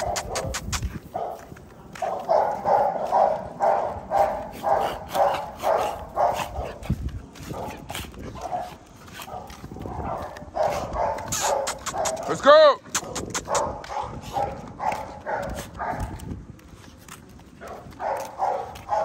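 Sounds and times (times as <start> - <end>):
puppy barking: 0.0 - 6.8, 7.5 - 12.4, 13.0 - 16.2, 17.6 - 19.0.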